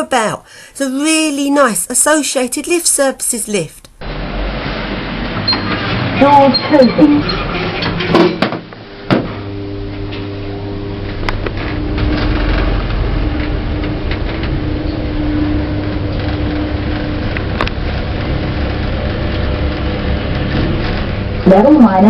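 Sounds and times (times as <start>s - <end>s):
lift drive hum and rumble: 3.9s - 22.0s
faint whine: 4.0s - 22.0s.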